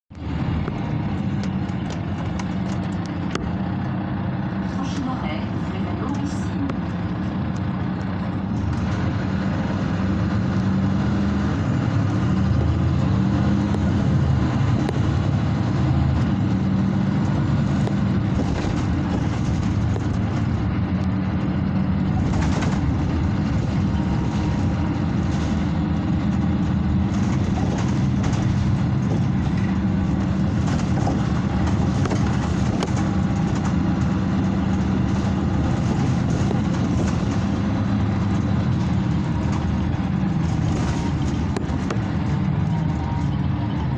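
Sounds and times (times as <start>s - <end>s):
bus diesel engine running: 0.0s - 43.9s
road noise: 0.0s - 43.9s.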